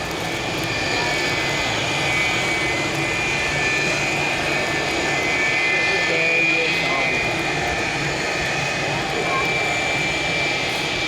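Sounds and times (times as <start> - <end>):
jet engines with high whine: 0.0 - 11.0.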